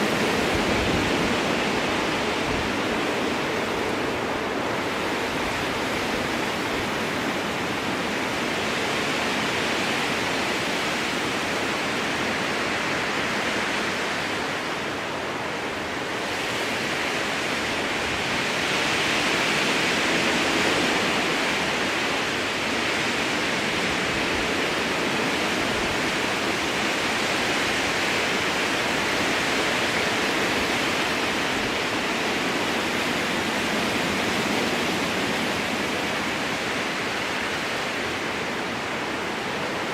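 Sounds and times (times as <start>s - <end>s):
strong wind in trees: 0.0s - 39.9s.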